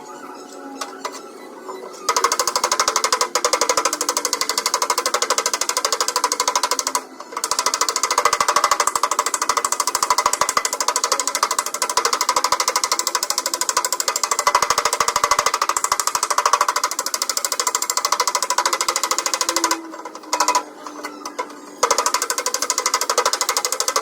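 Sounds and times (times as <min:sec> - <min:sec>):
rapid metallic tapping on sheet metal: 0:02.1 - 0:24.0.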